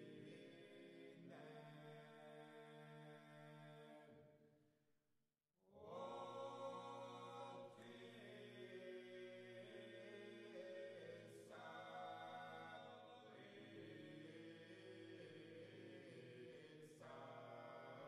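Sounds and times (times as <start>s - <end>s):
slow choral chant: 0.0s - 4.4s, 5.7s - 18.0s.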